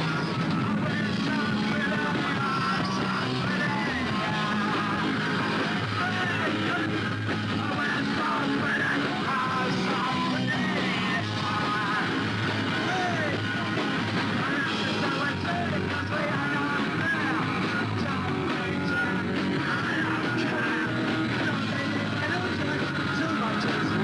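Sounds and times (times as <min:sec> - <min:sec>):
bass guitar: 0:00.0 - 0:24.0
drums: 0:00.0 - 0:24.0
electric guitars: 0:00.0 - 0:24.0.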